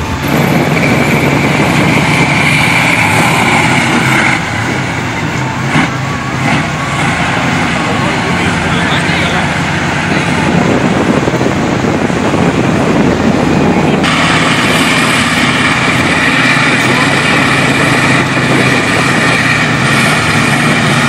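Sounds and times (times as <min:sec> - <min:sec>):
crowd voices: 0:00.0 - 0:21.0
high engine whine: 0:00.0 - 0:21.0
vehicle engine running: 0:00.0 - 0:21.0.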